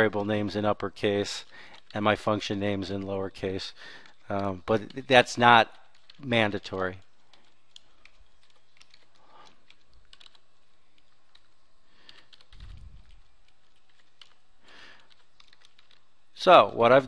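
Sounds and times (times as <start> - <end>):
keyboard typing: 0.0 - 16.3.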